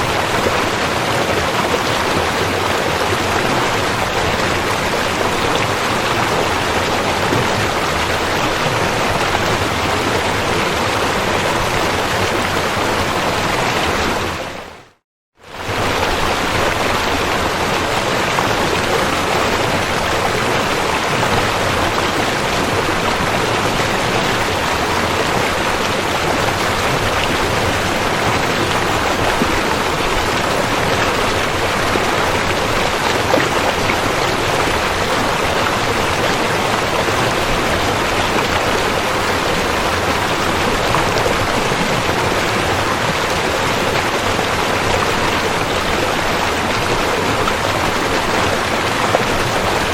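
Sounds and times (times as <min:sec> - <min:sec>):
river water rushing: 0:00.0 - 0:14.8, 0:15.4 - 0:49.9.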